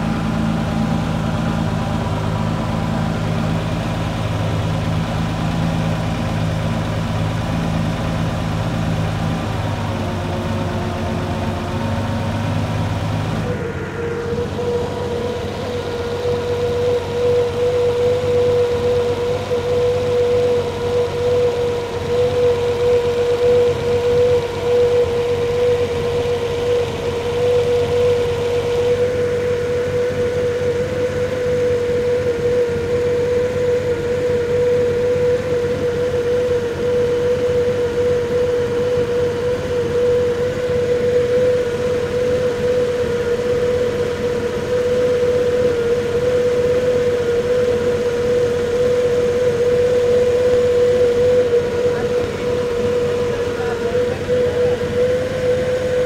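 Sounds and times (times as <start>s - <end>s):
boat engine idling: 0.0s - 56.0s
steady tone: 0.0s - 56.0s.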